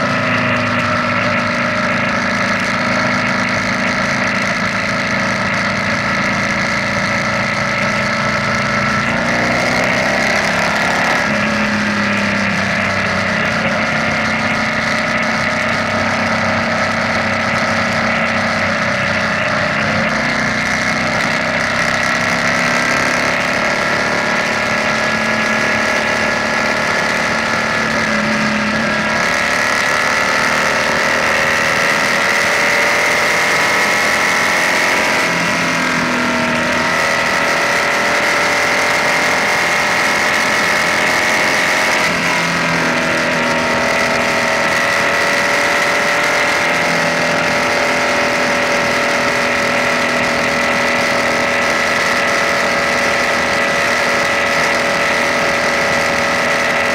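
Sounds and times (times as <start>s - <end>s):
motorcycle engine cruising: 0.0s - 56.9s
road and wind noise: 0.0s - 56.9s.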